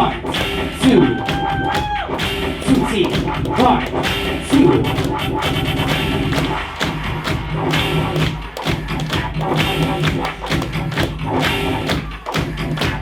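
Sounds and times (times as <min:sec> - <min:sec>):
heavy thudding beat: 0:00.0 - 0:13.0
loud dance music: 0:00.0 - 0:13.0.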